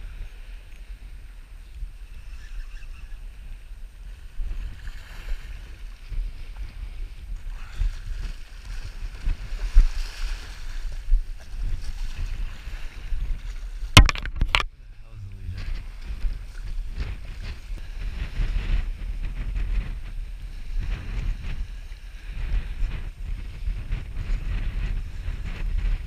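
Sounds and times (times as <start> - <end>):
wind buffeting microphone: 0.0 - 26.0
surf washing up beach: 3.2 - 26.0.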